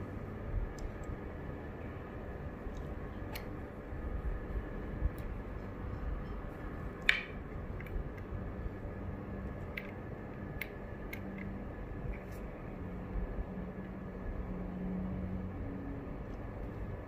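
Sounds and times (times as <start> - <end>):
steady low background noise: 0.0 - 17.0.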